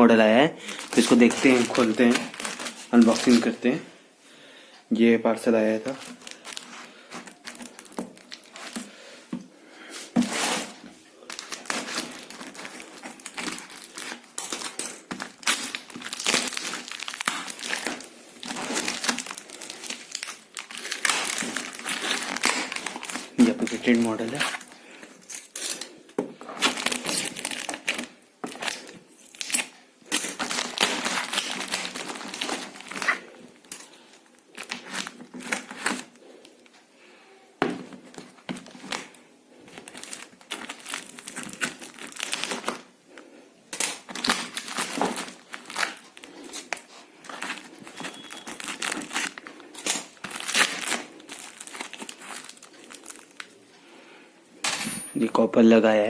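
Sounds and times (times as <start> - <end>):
packaging crinkling and rustling: 0.6 - 3.8, 5.4 - 36.9, 37.7 - 53.7
packaging tearing: 0.7 - 3.6, 5.9 - 9.0, 10.2 - 25.9, 26.5 - 36.3, 38.1 - 42.8, 43.7 - 53.5.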